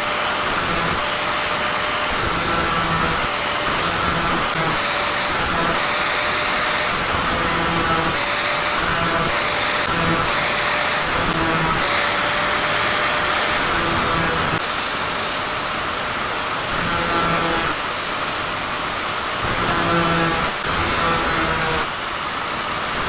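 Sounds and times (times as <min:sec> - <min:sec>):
electric grinder sharpening saw: 0:00.0 - 0:23.0.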